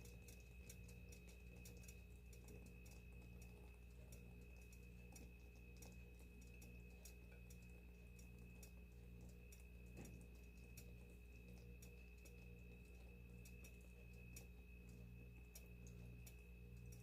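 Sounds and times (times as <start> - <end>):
food simmering with small pops: 0.0 - 17.0
steady low hum: 0.0 - 17.0.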